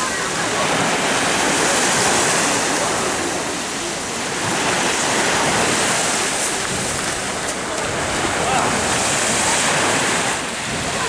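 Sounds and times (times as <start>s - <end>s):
sea surf rushing: 0.0s - 11.0s
wind: 0.0s - 11.0s.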